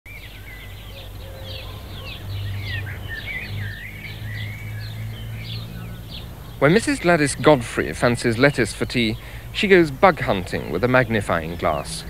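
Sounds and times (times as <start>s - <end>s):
songbirds chirping: 0.1s - 12.0s
steady low hum: 0.1s - 12.0s.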